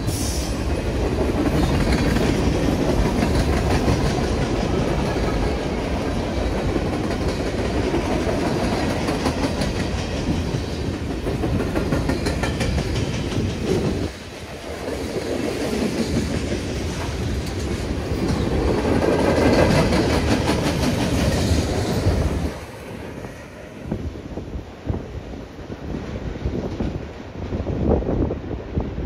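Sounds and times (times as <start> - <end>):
freight train wheels clicking: 0.0 - 24.0.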